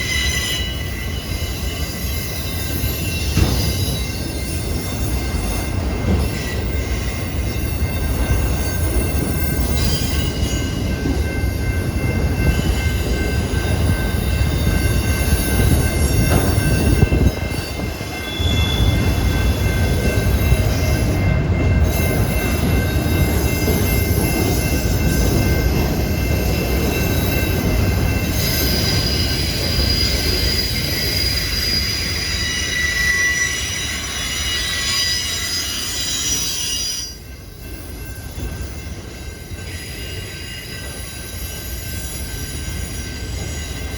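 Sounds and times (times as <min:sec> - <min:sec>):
heavy low train rumble: 0:00.0 - 0:43.9
train wheels squealing: 0:00.0 - 0:43.9.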